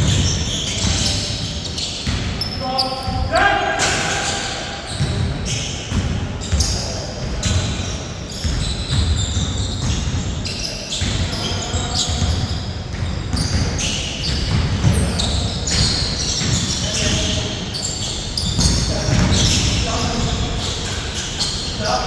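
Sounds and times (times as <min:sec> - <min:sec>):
basketballs bouncing on court: 0:00.0 - 0:22.0.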